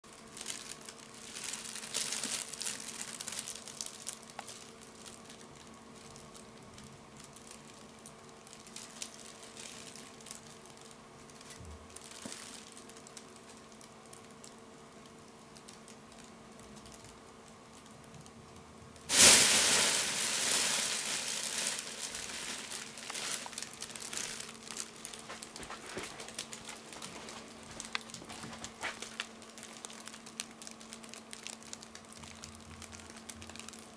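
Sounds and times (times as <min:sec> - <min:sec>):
faint steady hum: 0:00.0 - 0:33.9
nylon fabric crinkling and rustling: 0:00.1 - 0:18.2, 0:19.1 - 0:33.9.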